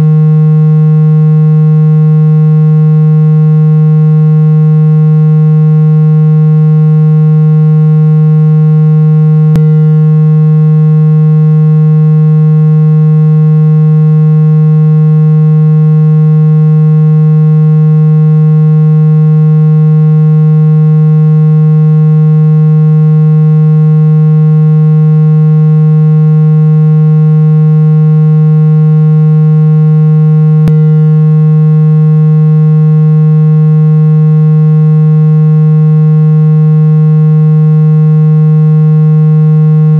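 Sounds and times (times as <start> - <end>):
low buzzy synthesized hum: 0.0 - 39.9.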